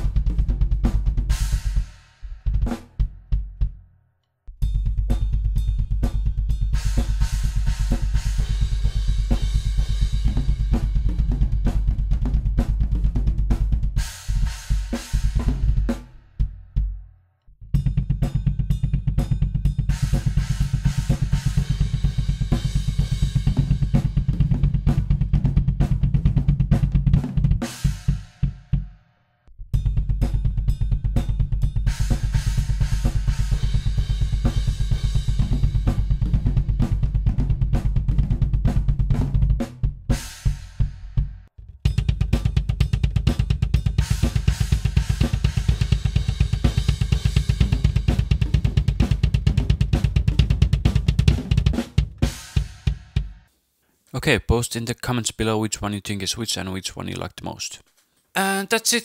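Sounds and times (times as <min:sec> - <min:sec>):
rapid kick drum beats: 0:00.0 - 0:03.8, 0:04.6 - 0:17.0, 0:17.7 - 0:29.0, 0:29.7 - 0:53.5.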